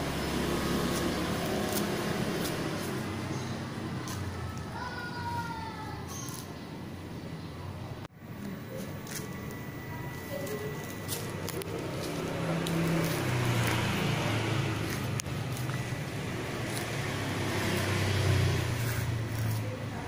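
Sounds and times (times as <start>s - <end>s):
vehicle engine running: 0.0s - 4.8s, 8.0s - 20.0s.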